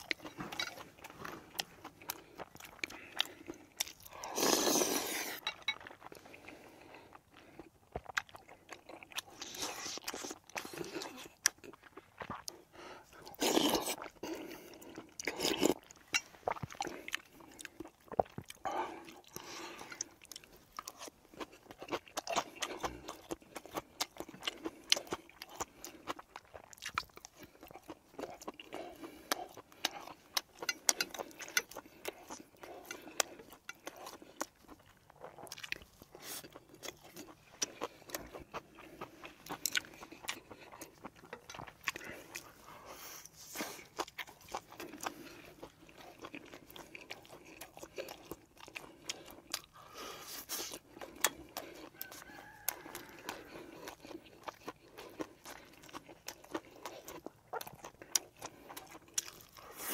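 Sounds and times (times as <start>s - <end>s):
man chewing crunchy food: 0.0s - 59.9s.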